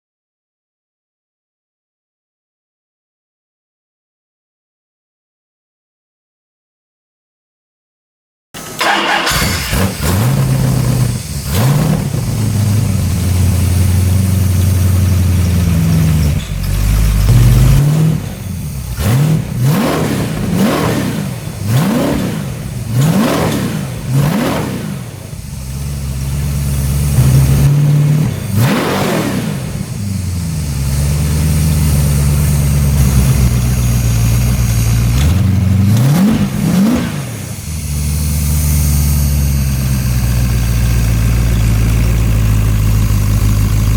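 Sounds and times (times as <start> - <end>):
engine idling and revving: 8.6 - 43.9.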